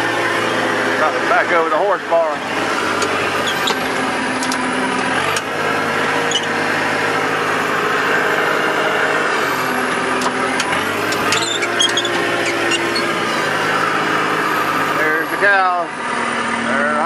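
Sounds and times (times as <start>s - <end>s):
loader engine running: 0.0s - 16.7s.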